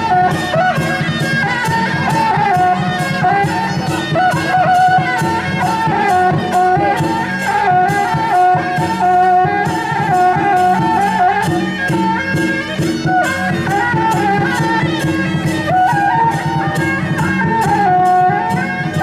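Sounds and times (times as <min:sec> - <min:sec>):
drums and cymbals beat: 0:00.0 - 0:19.0.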